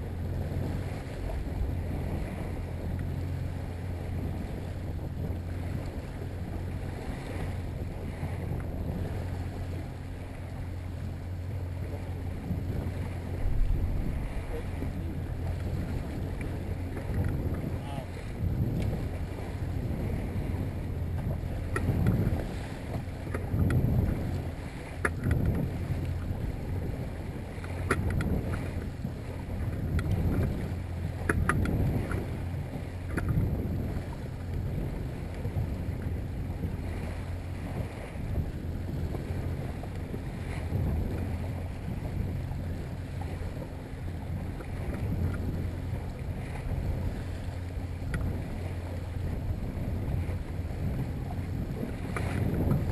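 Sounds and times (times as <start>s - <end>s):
outboard motor running: 0.0s - 52.9s
water lapping against hull: 0.0s - 52.9s
wind on microphone: 0.0s - 52.9s.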